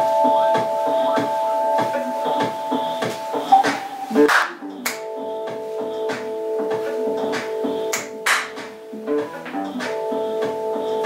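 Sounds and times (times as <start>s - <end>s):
held music chord: 0.0s - 11.0s
steady percussive beat: 0.0s - 11.0s.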